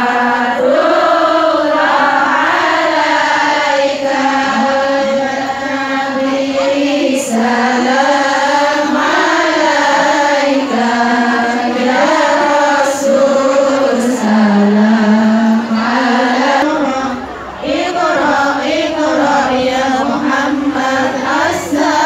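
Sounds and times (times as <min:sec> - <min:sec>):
women singing in unison: 0:00.0 - 0:22.0.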